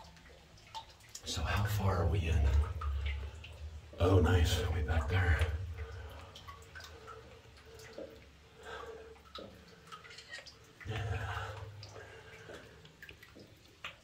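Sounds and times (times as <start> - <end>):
water drips and splashes: 0.0 - 14.0
water sloshing and lapping: 0.0 - 14.0.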